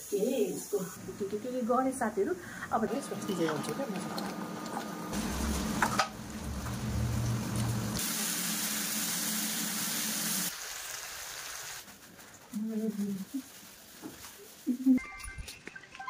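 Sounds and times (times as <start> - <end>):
vegetables sizzling in a wok: 0.0 - 3.3, 5.0 - 15.0.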